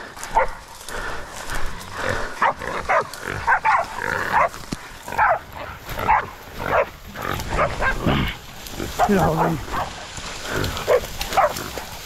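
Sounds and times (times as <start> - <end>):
dogs barking: 0.2 - 0.7, 2.0 - 12.0.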